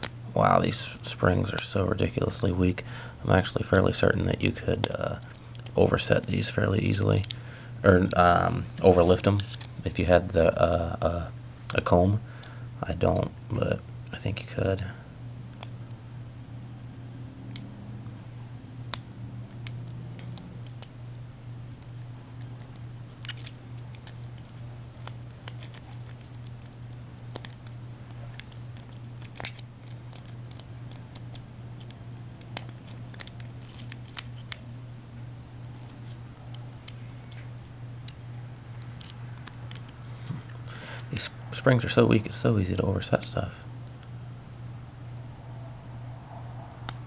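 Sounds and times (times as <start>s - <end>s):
low hum: 0.0s - 47.0s.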